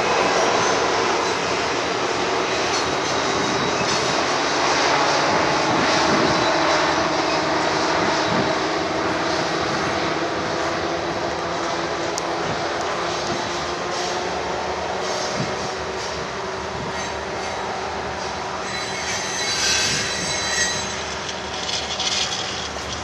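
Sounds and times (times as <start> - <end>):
diesel locomotives droning: 0.0 - 23.0.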